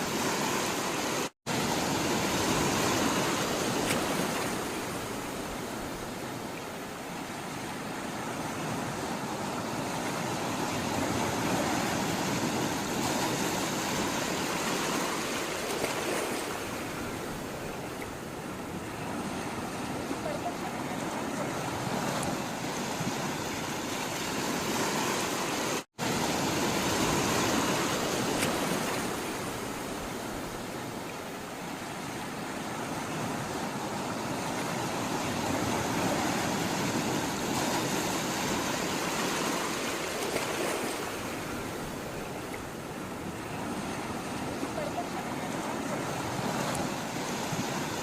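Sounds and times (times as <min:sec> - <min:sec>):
sea water rushing: 0:00.0 - 0:48.0.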